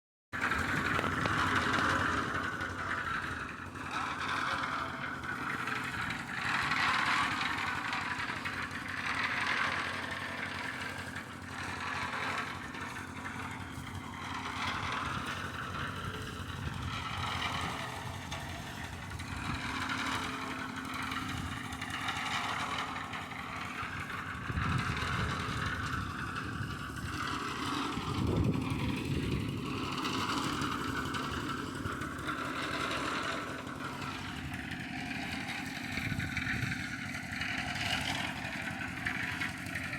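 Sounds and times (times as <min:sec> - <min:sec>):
engine running steadily: 0:00.4 - 0:39.9.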